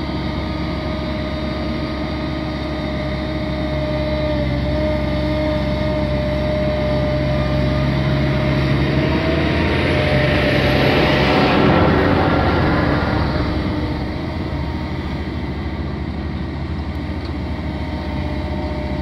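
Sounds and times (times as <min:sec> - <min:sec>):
excavator diesel engine under load: 0:00.0 - 0:19.0
steady whine: 0:00.0 - 0:19.0.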